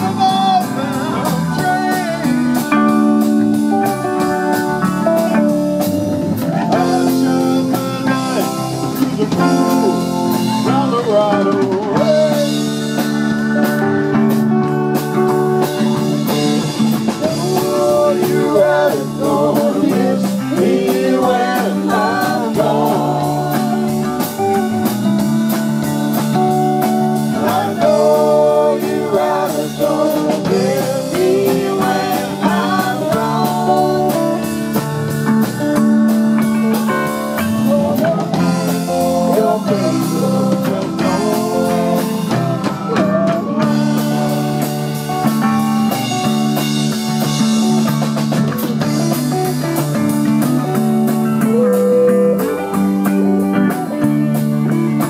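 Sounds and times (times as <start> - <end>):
drum kit: 0.0 - 55.0
electric guitars: 0.0 - 55.0
lead guitar bending notes: 0.0 - 55.0.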